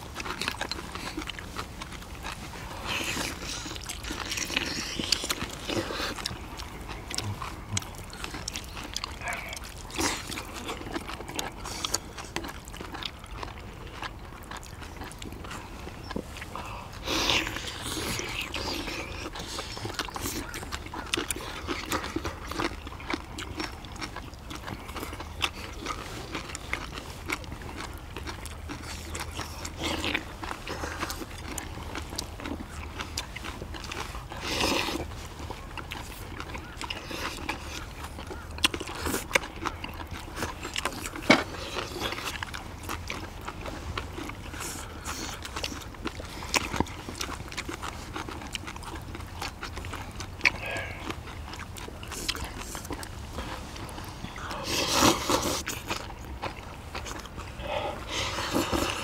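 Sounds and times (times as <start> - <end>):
people chewing and slurping: 0.0 - 59.0.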